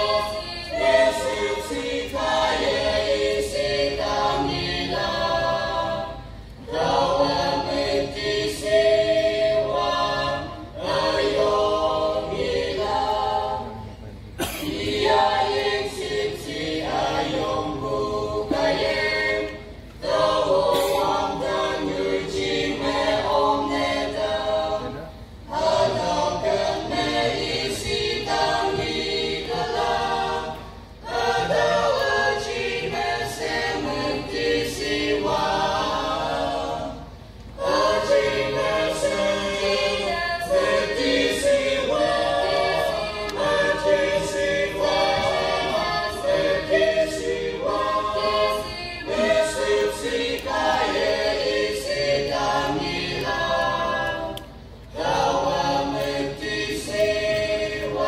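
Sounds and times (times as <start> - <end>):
choir singing a hymn unaccompanied: 0.0 - 58.0.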